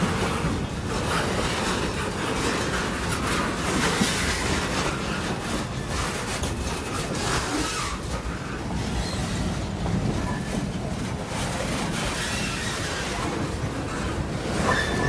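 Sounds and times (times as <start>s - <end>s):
train wheels rolling on rails: 0.0s - 15.0s
wheels clicking over rail joints: 0.0s - 15.0s.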